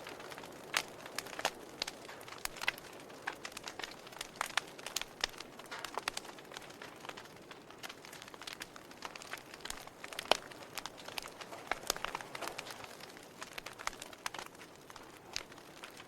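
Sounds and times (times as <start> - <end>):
soft fire hiss: 0.0 - 16.0
wood fire crackling and popping: 0.0 - 16.0.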